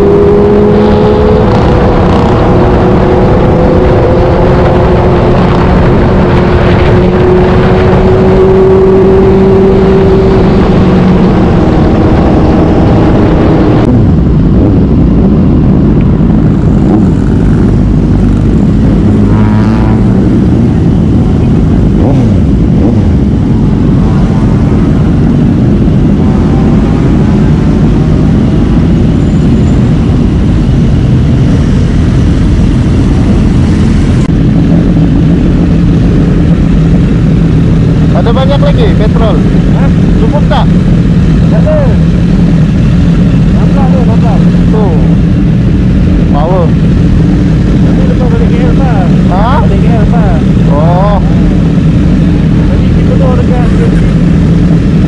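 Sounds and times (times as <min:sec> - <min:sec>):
motorcycle engine: 0:00.0 - 0:55.0
wind noise: 0:00.0 - 0:55.0.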